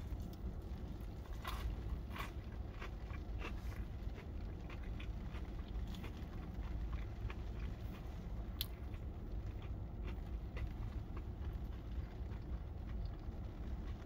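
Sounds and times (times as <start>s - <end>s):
crunching and chewing food: 0.0s - 14.0s
low steady rumble: 0.0s - 14.0s.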